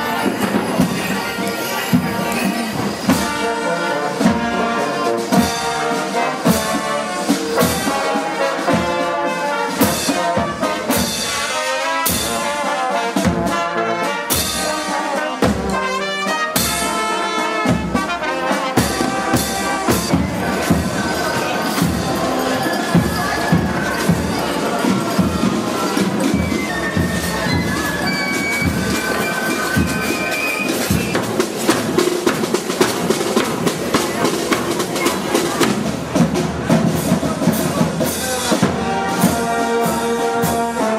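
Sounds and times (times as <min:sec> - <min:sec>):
brass band playing: 0:00.0 - 0:40.9.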